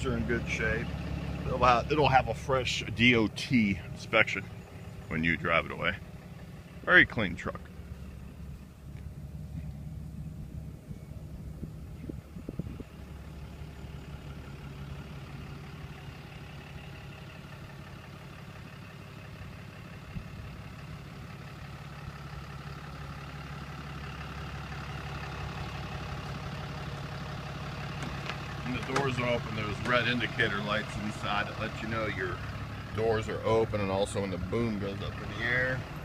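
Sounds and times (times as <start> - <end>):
diesel truck engine idling: 0.0 - 36.0.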